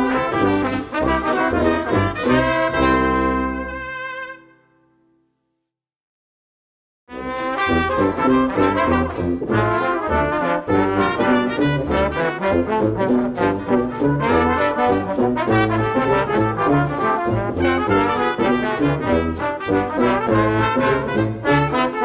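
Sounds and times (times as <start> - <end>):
brass instrumental music: 0.0 - 5.1, 7.1 - 22.0.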